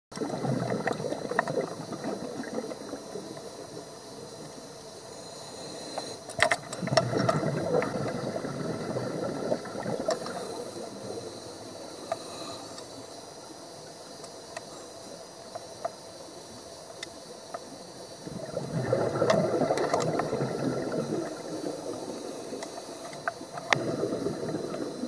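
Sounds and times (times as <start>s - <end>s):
underwater bubbles gurgling: 0.1s - 25.0s
regulator hiss: 0.2s - 25.0s.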